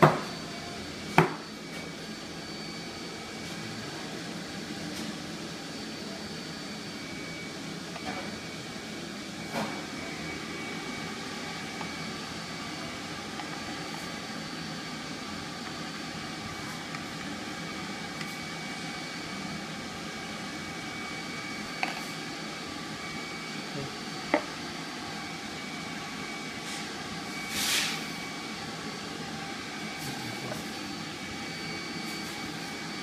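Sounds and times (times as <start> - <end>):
cafe background hum: 0.0 - 33.0
faint high machinery tones: 0.0 - 33.0.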